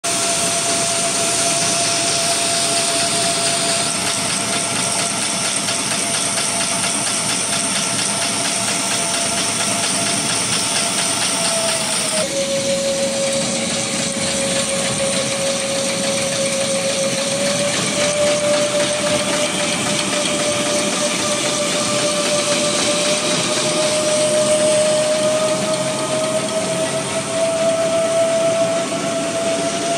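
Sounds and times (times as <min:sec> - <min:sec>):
machine whine: 0:00.0 - 0:29.9
machine mechanical clatter: 0:00.8 - 0:29.9.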